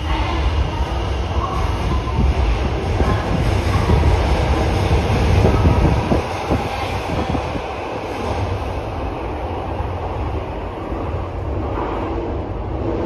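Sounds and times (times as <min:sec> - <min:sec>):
subway train rumbling past: 0:00.0 - 0:13.0.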